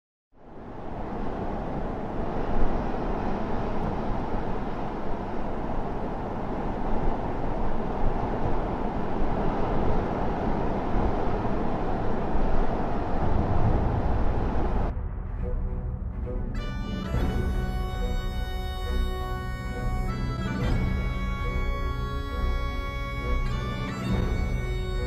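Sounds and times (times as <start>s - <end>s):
low rushing noise: 0.4s - 25.0s.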